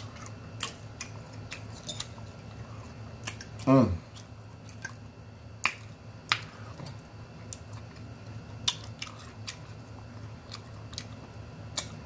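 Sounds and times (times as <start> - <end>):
chewing clicks and smacks: 0.0 - 12.0
low steady hum: 0.0 - 12.0.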